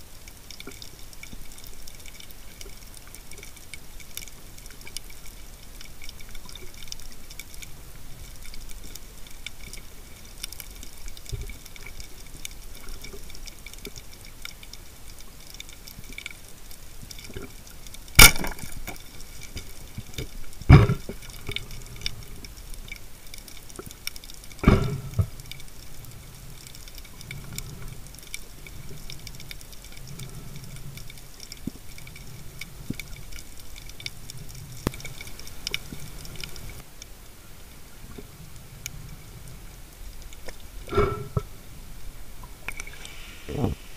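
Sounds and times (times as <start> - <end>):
underwater crackling hiss: 0.0 - 43.9.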